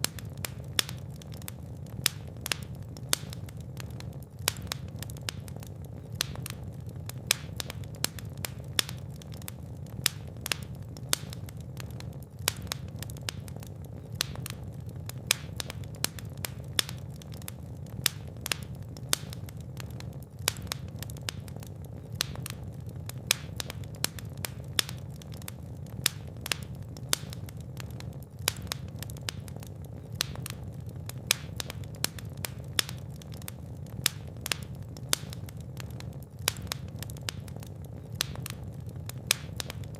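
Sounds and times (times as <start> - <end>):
fire crackling and popping: 0.0 - 39.9
low roar of flames: 0.0 - 39.9.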